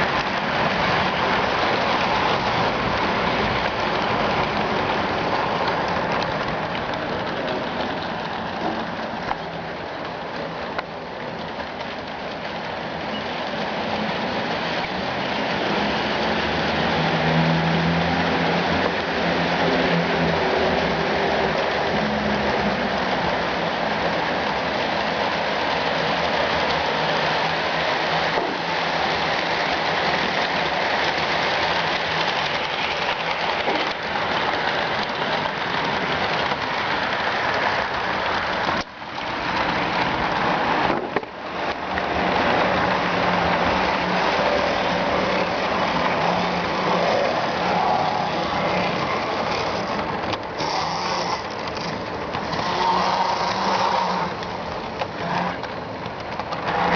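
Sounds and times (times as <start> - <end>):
model train wheels rolling on rail: 0.0 - 56.9.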